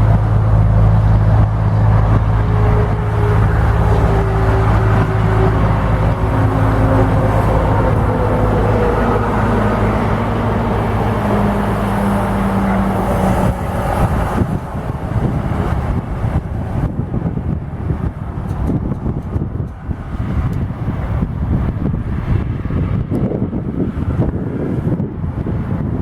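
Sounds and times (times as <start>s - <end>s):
diesel locomotive engine running: 0.0s - 26.0s
train rolling rumble: 0.0s - 26.0s.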